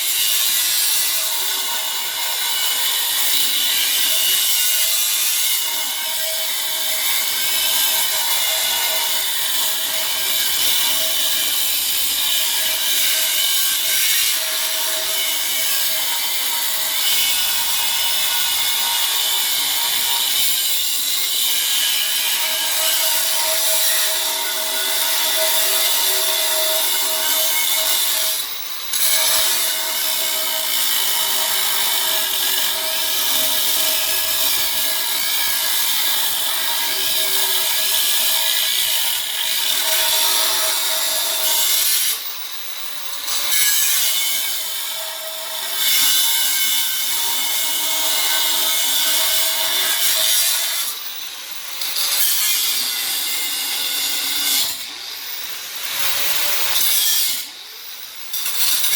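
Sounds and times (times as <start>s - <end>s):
power saw cutting steel: 0.0s - 58.9s.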